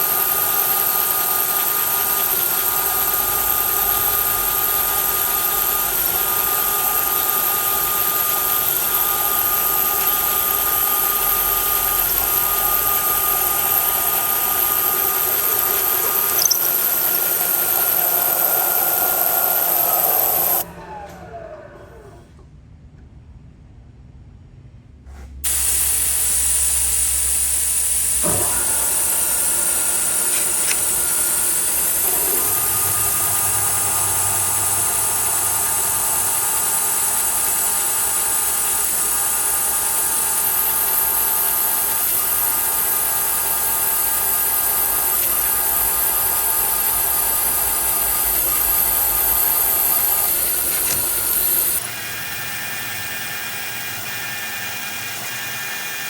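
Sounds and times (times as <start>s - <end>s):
milling machine whining: 0.0s - 22.3s, 25.5s - 56.0s.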